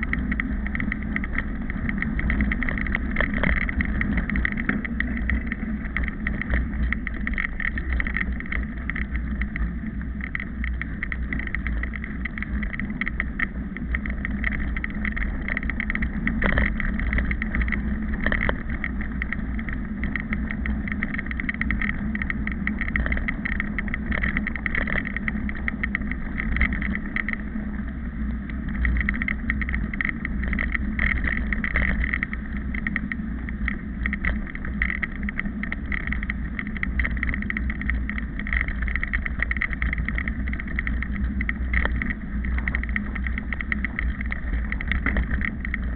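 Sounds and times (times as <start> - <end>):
bike tyres rumbling on gravel: 0.0 - 45.9
small clicks and rattles: 0.0 - 45.9.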